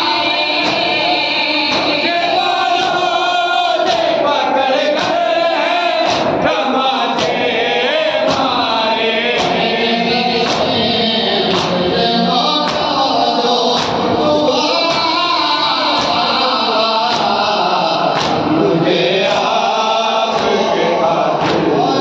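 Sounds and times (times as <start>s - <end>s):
men singing a lament in chorus: 0.0s - 22.0s.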